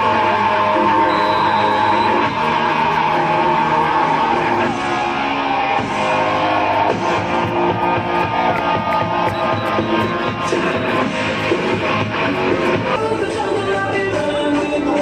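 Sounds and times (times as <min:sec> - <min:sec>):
rock music over loudspeakers: 0:00.0 - 0:15.0.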